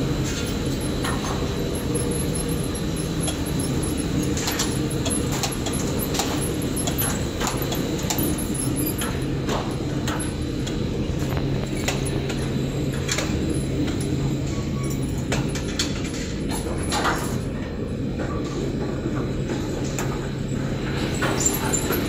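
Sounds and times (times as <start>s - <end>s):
production line machinery drone: 0.0s - 22.0s.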